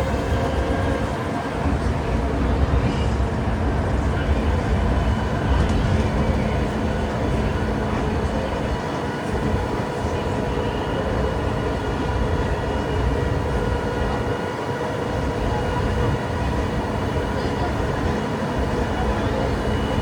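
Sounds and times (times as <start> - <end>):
vehicle and tyres rumbling: 0.0 - 20.0.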